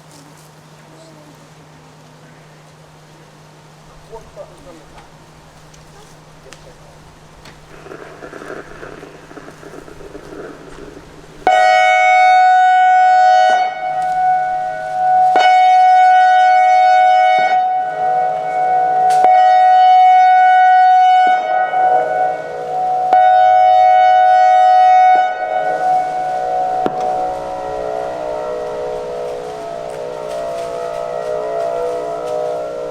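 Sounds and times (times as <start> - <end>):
buzzy warning siren horn blasts: 6.2 - 32.9.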